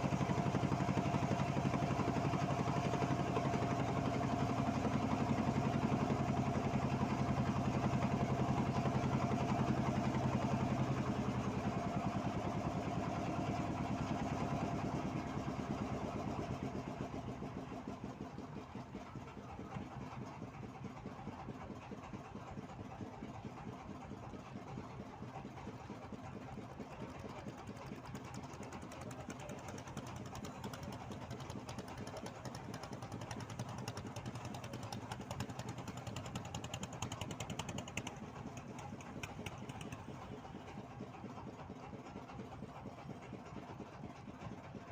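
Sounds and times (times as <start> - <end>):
boat engine running: 0.0 - 19.6, 25.2 - 44.8.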